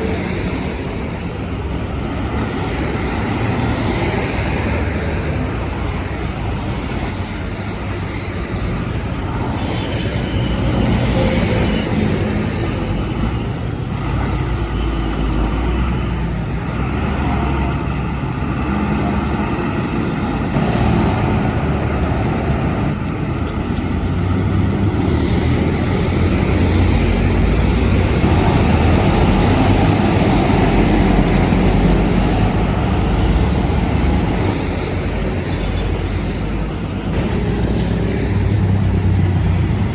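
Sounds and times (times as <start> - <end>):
truck engine rumble: 0.0 - 39.9.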